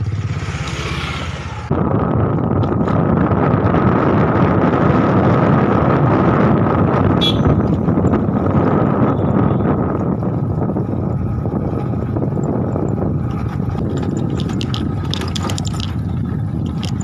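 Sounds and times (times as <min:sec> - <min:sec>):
road noise: 0:00.0 - 0:17.0
wind buffeting microphone: 0:01.3 - 0:17.0
motorbike engine running: 0:01.8 - 0:17.0.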